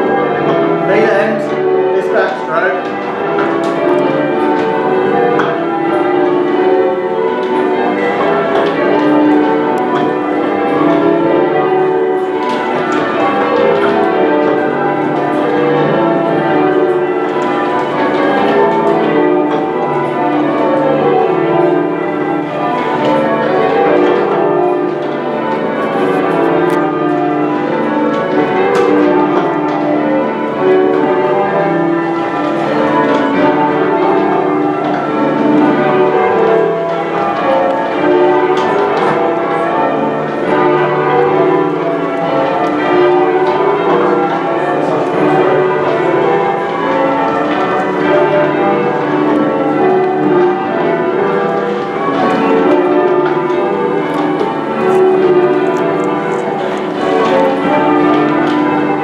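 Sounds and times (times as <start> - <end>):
church bells change ringing: 0.0 - 59.0.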